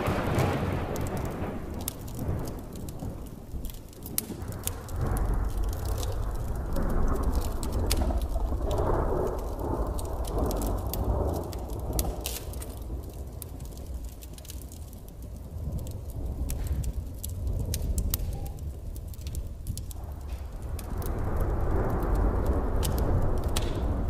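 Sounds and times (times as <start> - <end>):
rain pattering: 0.0 - 24.0
rolling thunder: 0.0 - 24.0.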